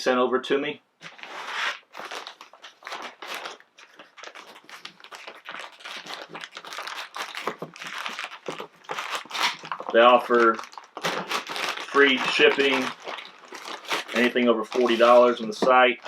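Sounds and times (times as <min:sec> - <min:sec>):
packaging crinkling and rustling: 0:01.0 - 0:16.0.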